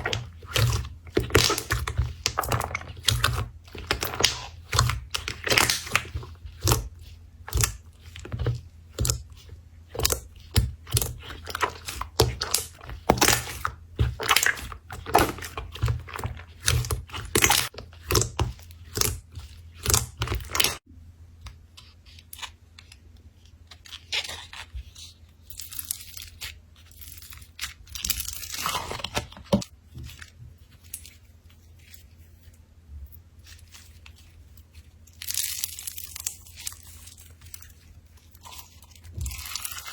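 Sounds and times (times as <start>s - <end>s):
slime squishing and crackling: 0.0s - 20.9s, 21.9s - 32.5s, 33.3s - 39.9s.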